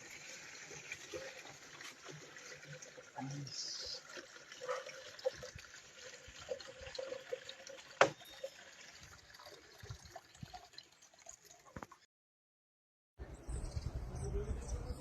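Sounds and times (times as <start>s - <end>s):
liquid trickling through a funnel: 0.0s - 12.1s.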